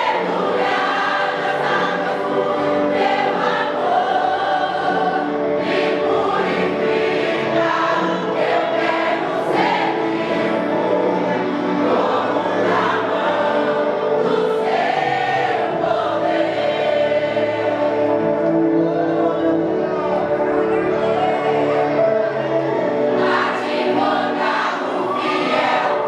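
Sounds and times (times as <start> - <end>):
vocal group singing gospel: 0.0 - 26.0.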